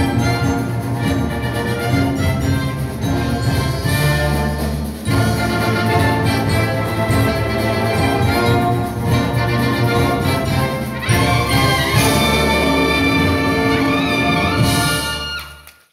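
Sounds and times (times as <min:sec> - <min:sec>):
high brass line sliding up: 0:00.0 - 0:15.6
wind band playing: 0:00.0 - 0:15.8.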